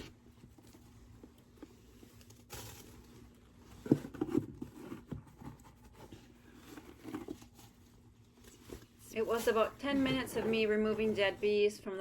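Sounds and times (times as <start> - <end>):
small knocks and rustles: 0.0 - 11.3.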